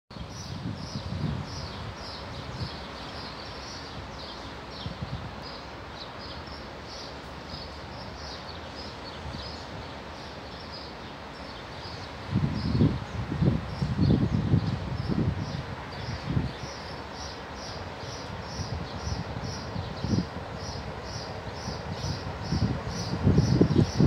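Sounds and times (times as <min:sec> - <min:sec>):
steady outdoor hiss: 0:00.1 - 0:24.0
small birds chirping: 0:00.2 - 0:24.0.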